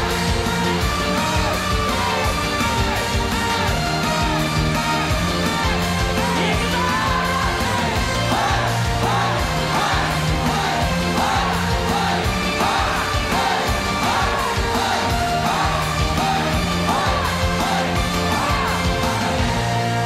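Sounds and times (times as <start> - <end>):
live pop band playing: 0.0 - 20.0
men singing and shouting: 0.0 - 20.0
steady bass line: 0.0 - 20.0.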